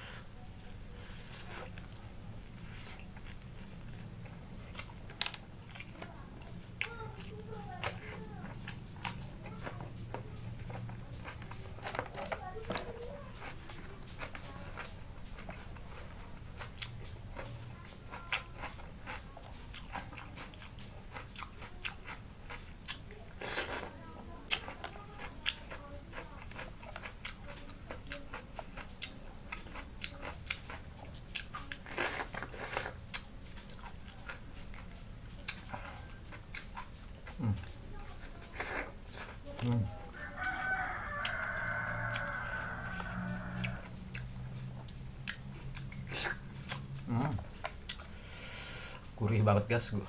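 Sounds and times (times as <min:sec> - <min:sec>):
chewing and smacking: 0:00.5 - 0:48.1.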